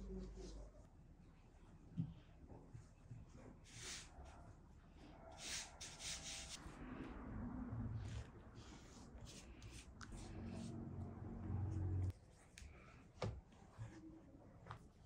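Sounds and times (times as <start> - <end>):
brush swishing over dough: 1.5 - 7.1, 7.8 - 15.0.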